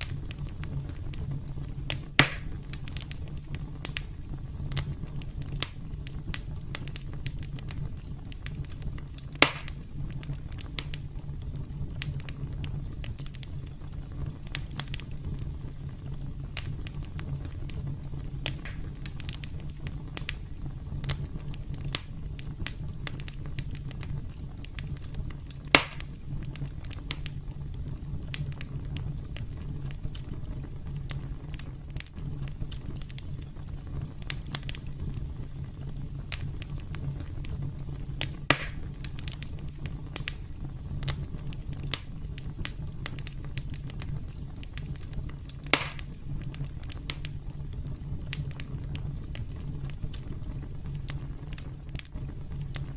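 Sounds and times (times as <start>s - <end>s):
campfire crackling: 0.0s - 52.9s
sharp fire pops: 0.0s - 52.9s.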